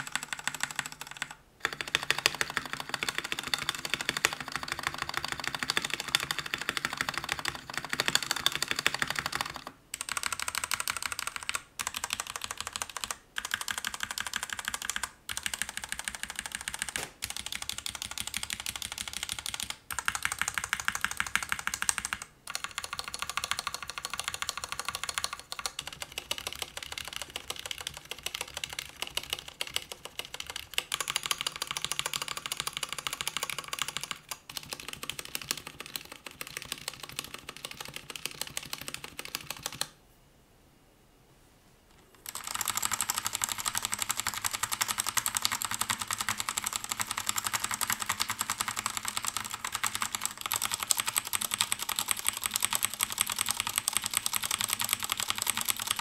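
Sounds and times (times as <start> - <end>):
fast mechanical keyboard typing: 0.0 - 39.9, 42.2 - 56.0.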